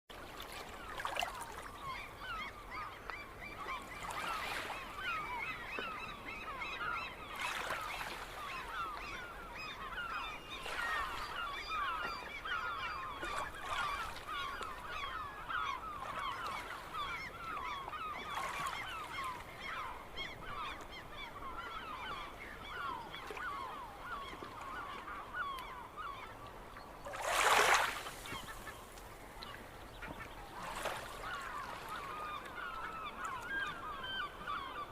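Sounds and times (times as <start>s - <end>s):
gulls calling: 0.4s - 34.9s.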